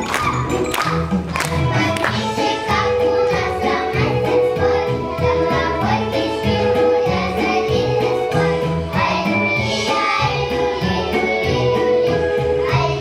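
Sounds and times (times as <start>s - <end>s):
children singing together: 0.0s - 13.0s
instrumental accompaniment: 0.0s - 13.0s.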